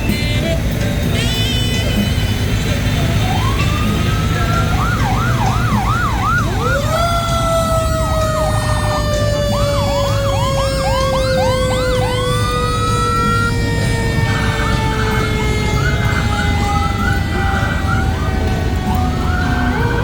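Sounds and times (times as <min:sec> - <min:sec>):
siren yelp: 0:01.8 - 0:20.0
siren wail falling in pitch: 0:03.0 - 0:20.0.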